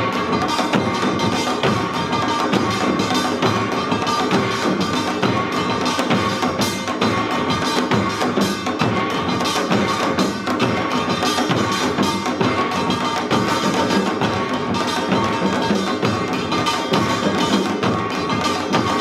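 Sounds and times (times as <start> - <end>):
fast hourglass drumming: 0.0 - 19.0.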